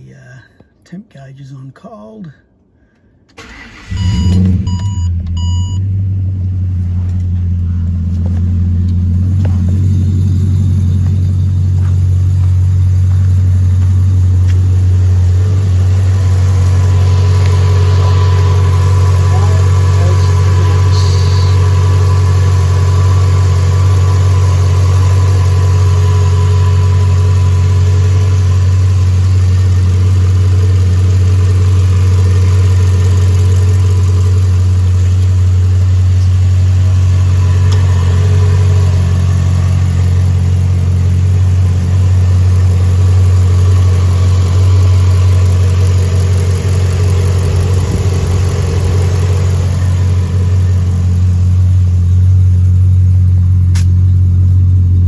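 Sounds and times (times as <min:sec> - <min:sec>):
car engine idling: 0:03.4 - 0:55.0.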